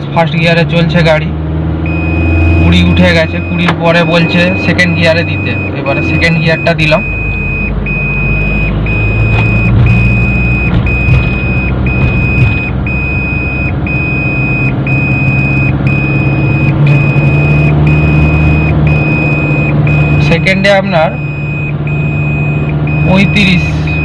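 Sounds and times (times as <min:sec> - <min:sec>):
car engine running: 0:00.0 - 0:24.0
seat-belt warning chime beeping: 0:01.9 - 0:24.0.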